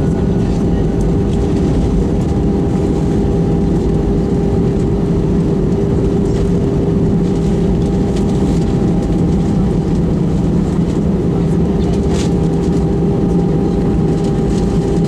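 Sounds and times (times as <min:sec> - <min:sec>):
jet engine drone: 0:00.0 - 0:15.0
low rumble: 0:00.0 - 0:15.0.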